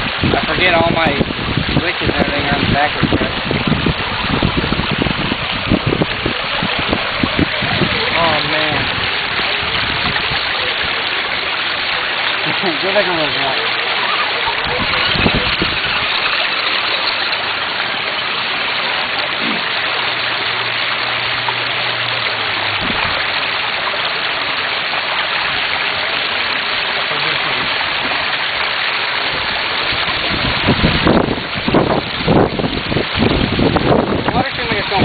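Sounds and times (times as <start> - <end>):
river water rushing over rocks: 0.0 - 35.0.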